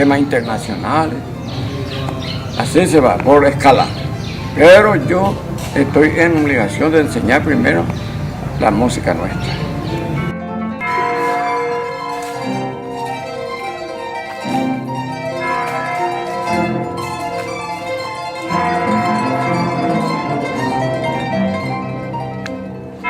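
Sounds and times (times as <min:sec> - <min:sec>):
harp music: 0:00.0 - 0:23.0.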